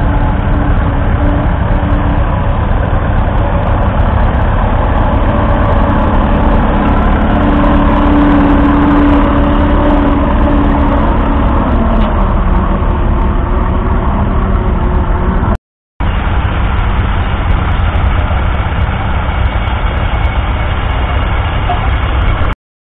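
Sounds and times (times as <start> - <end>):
tractor engine running steadily: 0.0 - 22.6.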